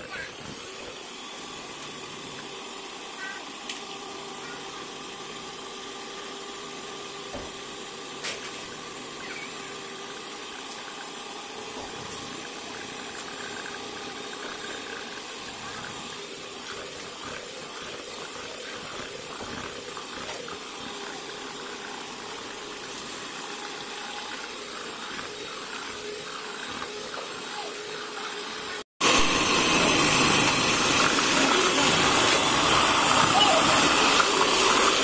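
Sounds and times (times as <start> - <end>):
electric hand mixer whisking: 0.0 - 35.0.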